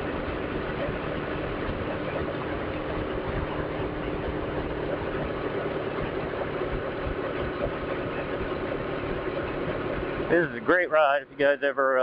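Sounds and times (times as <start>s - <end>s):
wind and road noise: 0.0s - 11.6s
motorcycle engine cruising: 0.0s - 12.0s.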